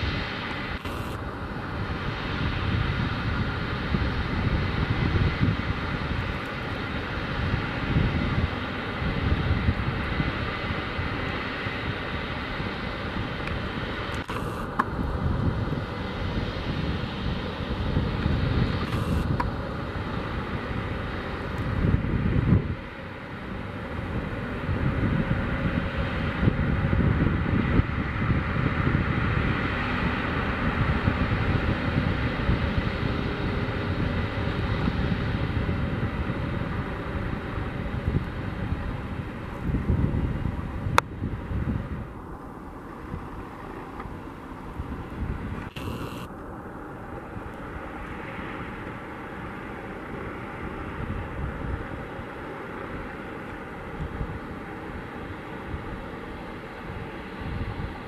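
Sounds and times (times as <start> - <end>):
jet engines hissing and whining: 0.0 - 58.0
wind rumbling on microphone: 0.0 - 58.0.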